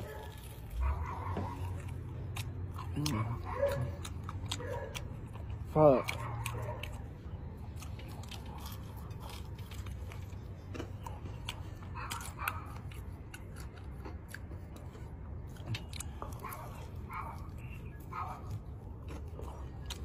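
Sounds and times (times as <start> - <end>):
wet chewing clicks and smacks: 0.0 - 20.0.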